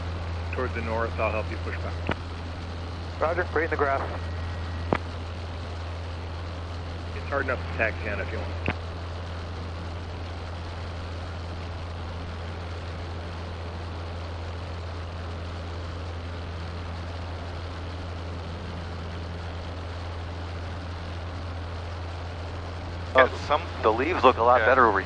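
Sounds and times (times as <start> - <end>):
airplane engine droning in cabin: 0.0 - 25.0.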